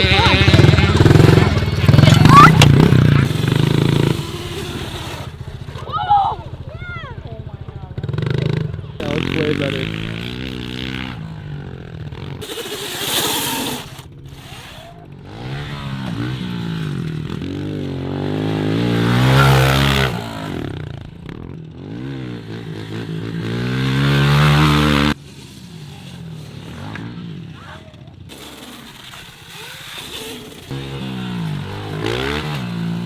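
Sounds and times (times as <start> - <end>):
off-road engines revving: 0.0 - 33.0.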